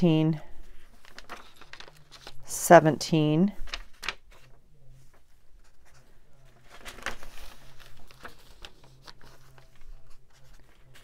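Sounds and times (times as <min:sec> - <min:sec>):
paper pages rustling: 0:00.5 - 0:02.5, 0:03.6 - 0:11.0.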